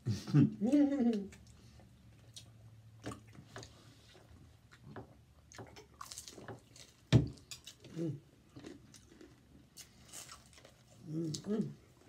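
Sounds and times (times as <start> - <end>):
chewing crisp fried food: 1.1 - 12.0.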